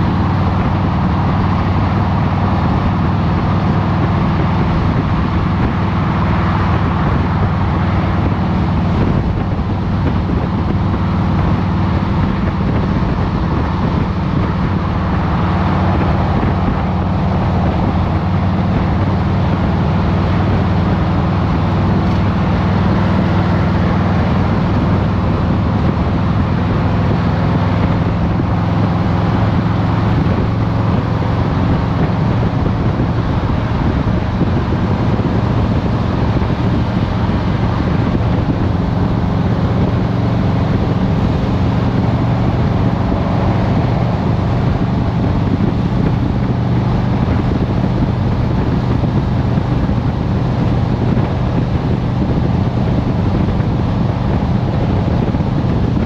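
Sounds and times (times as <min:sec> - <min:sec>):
motorcycle engine running: 0:00.0 - 0:56.0
road and wind noise: 0:00.0 - 0:56.0.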